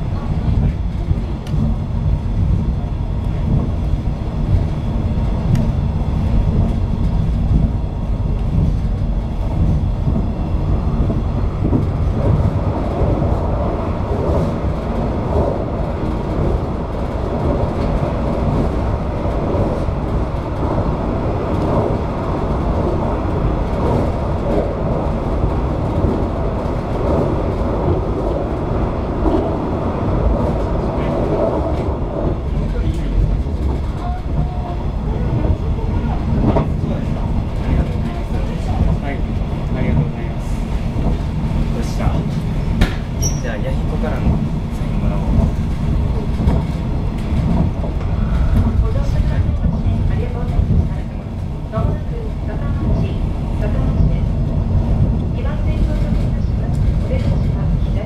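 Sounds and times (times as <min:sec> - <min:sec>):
train rolling onto steel bridge: 0:00.0 - 0:58.0
train wheel-on-rail rumble: 0:00.0 - 0:58.0.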